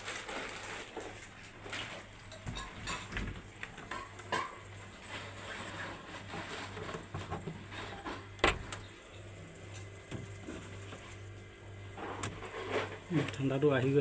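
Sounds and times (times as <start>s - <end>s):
fridge compressor humming: 0.0s - 14.0s.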